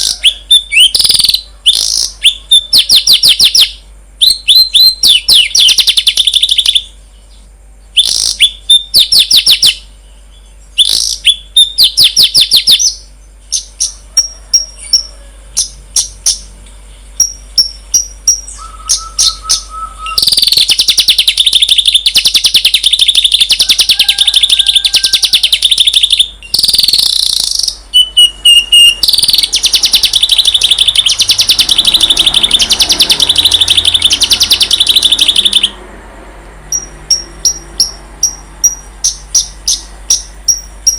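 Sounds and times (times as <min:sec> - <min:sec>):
songbird singing trills: 0:00.0 - 0:35.8, 0:36.7 - 0:40.9.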